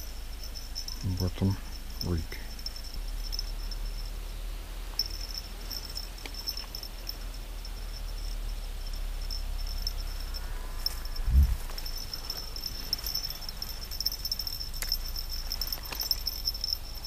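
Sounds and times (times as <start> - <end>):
insects chirring: 0.0 - 17.0
low rumble: 0.0 - 17.0.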